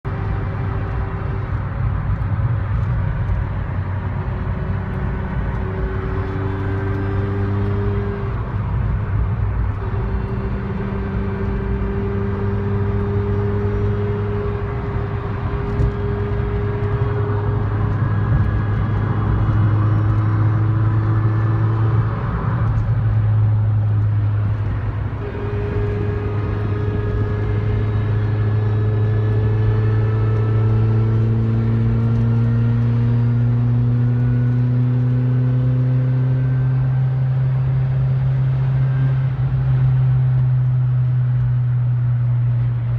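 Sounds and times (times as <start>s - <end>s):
car engine and road drone: 0.0s - 42.9s.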